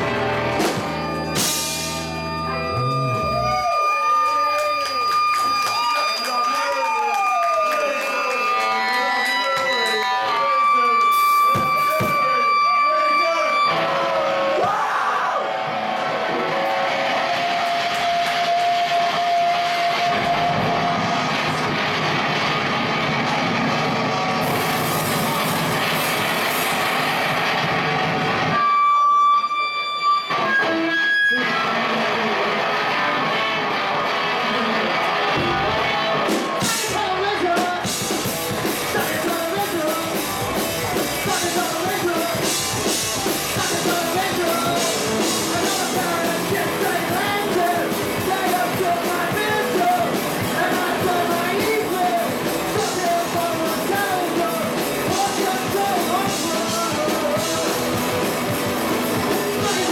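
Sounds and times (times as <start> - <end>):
distorted guitar noise: 0.0 - 6.2, 8.3 - 59.9
live rock band playing: 0.0 - 6.5, 8.4 - 14.8, 15.4 - 59.9.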